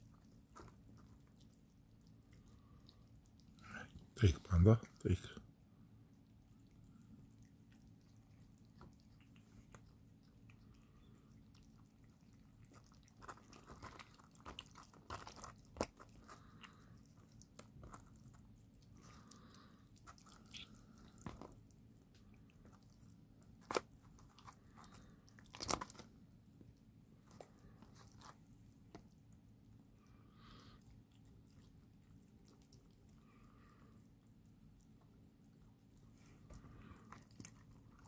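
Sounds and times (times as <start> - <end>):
kittens chewing: 0.0 - 38.0.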